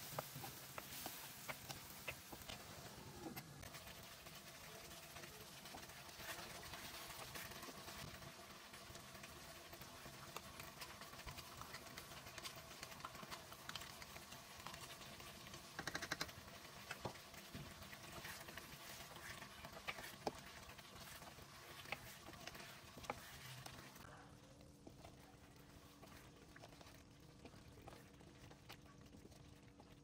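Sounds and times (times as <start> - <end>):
curry sizzling and bubbling: 0.0 - 30.0
wooden spatula stirring: 0.0 - 30.0.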